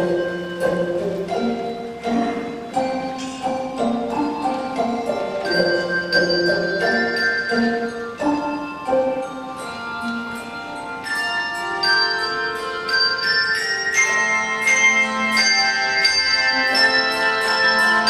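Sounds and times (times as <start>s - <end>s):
handbell choir playing a hymn: 0.0s - 18.0s.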